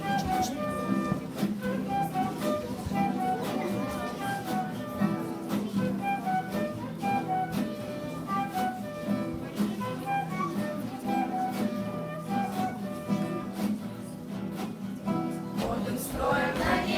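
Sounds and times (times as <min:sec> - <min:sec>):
flute-like melody: 0:00.0 - 0:14.3
plucked guitar: 0:00.0 - 0:16.9.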